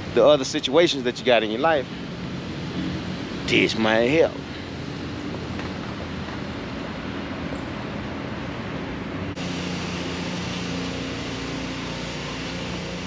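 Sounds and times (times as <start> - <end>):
road traffic rush: 0.0 - 13.0.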